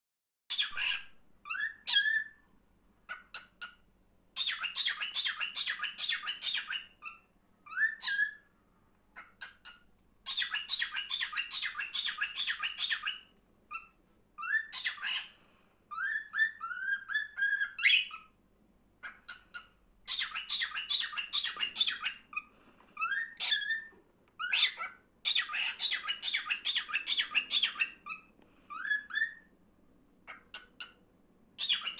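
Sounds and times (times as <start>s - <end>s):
cockatiel chattering and whistling: 0.5s - 2.4s, 3.1s - 3.8s, 4.4s - 8.4s, 9.2s - 15.3s, 15.9s - 18.3s, 19.0s - 29.5s, 30.2s - 31.0s, 31.6s - 31.9s.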